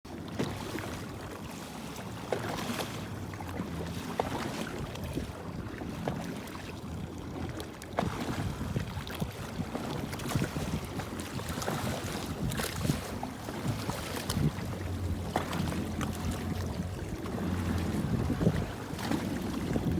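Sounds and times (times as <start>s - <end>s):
personal watercraft engine running: 0.1s - 19.9s
water slapping against hull: 0.1s - 19.9s
wind on microphone: 2.7s - 19.9s.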